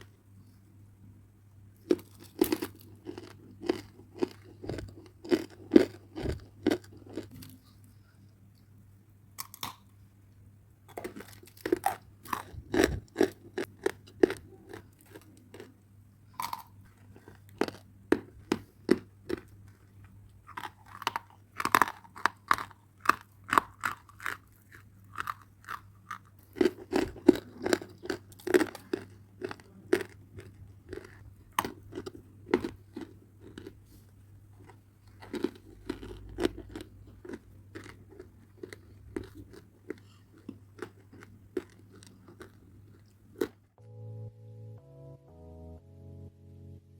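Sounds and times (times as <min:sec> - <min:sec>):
crunching and chewing clay: 0:01.8 - 0:08.0, 0:09.4 - 0:09.8, 0:10.9 - 0:43.6.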